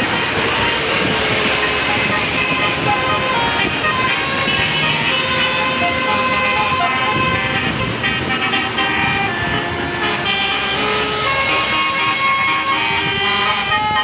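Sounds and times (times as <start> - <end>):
bus multi-tone horn playing a tune: 0.0 - 14.0.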